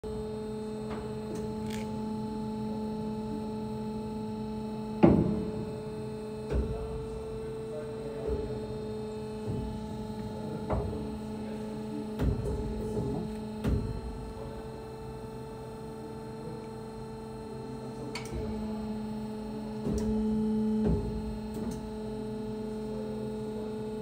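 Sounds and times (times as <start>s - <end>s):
band saw electric hum: 0.0s - 24.0s.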